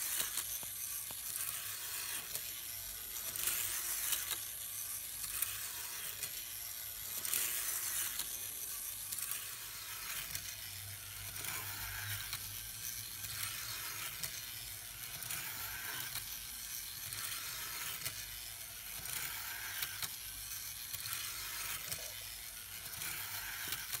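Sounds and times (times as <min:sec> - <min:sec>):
model motor high-pitched whir: 0:00.0 - 0:24.0.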